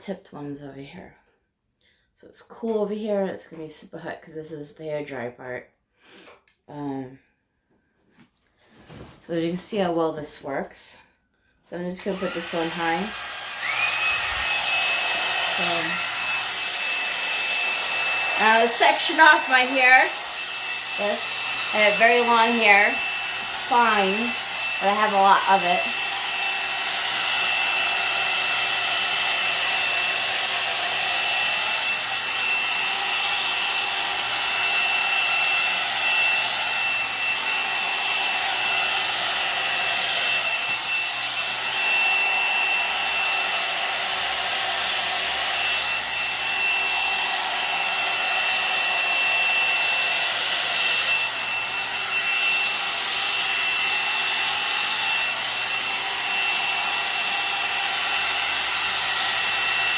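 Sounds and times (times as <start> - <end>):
hot air brush running: 11.9 - 59.9.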